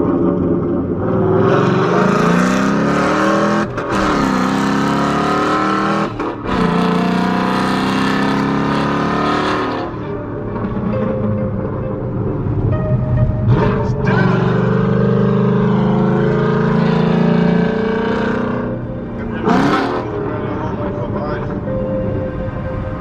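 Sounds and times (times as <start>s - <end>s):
car engine accelerating through gears: 0.0s - 23.0s.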